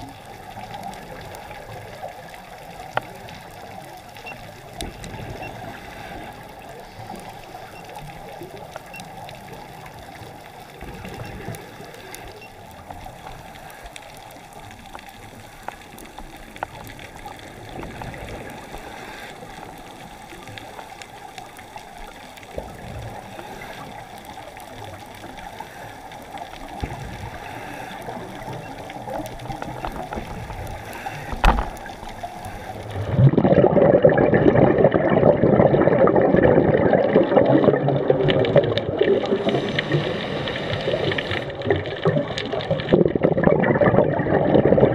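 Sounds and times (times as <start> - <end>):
small clicks and crackles: 0.0 - 34.0, 34.8 - 44.9
dull rush of water: 0.0 - 44.9
muffled underwater hiss: 0.0 - 44.9.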